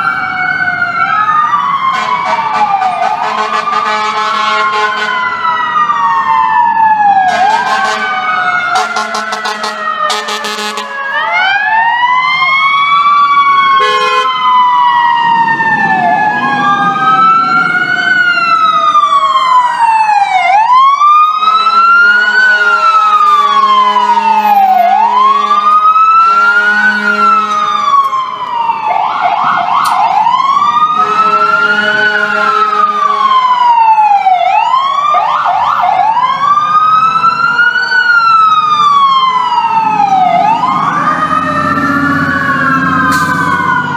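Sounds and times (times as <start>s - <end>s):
fire engine siren wailing: 0.0s - 43.9s
quick rising siren sweeps: 0.0s - 43.9s
second siren sliding down: 0.0s - 43.9s.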